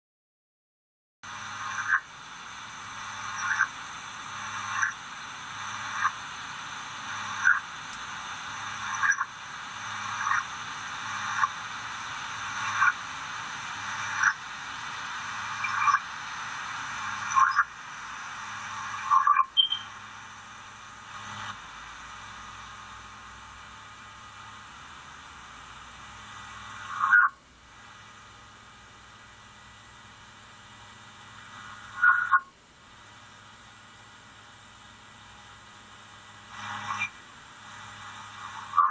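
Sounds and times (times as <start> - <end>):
steady hiss: 1.2 - 38.9.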